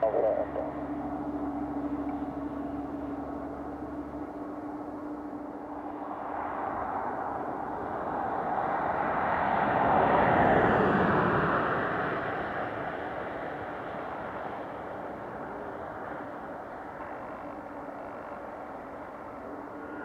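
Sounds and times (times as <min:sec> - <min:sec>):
aircraft engine passing: 0:00.0 - 0:20.0.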